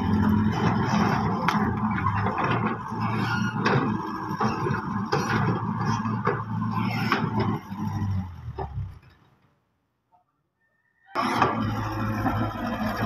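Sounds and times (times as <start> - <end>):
excavator diesel engine running: 0.0 - 9.3, 11.2 - 13.0.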